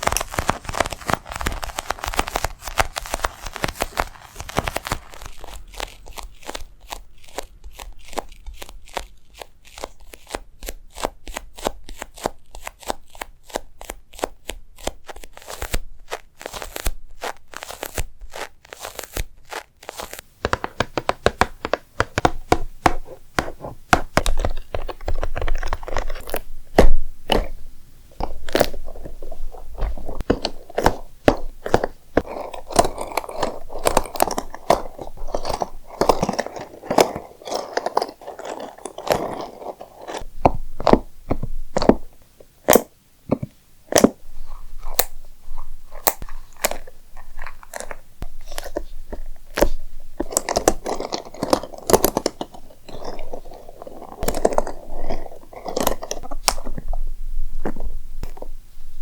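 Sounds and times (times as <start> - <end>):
crackling: 0.0 - 14.0, 14.8 - 42.9, 43.8 - 59.0.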